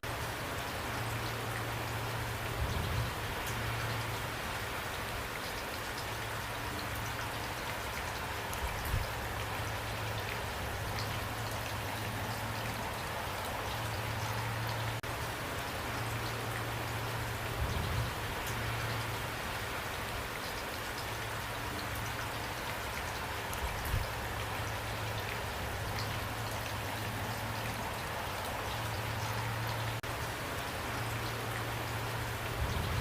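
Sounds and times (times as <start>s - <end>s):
raindrops ticking: 0.0s - 33.0s
steady rain falling: 0.0s - 33.0s.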